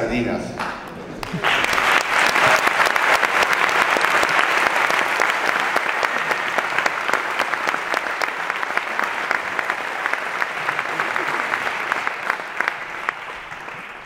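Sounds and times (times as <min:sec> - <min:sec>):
audience applauding: 0:00.6 - 0:14.0.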